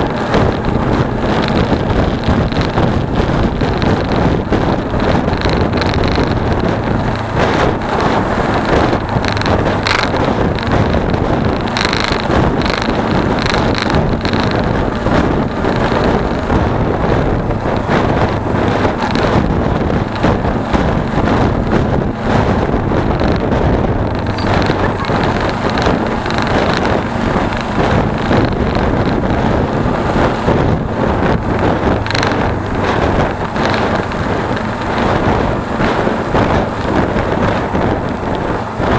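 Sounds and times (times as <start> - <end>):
motorcycle engine hum: 0.0 - 38.9
wind buffeting microphone: 0.0 - 38.9.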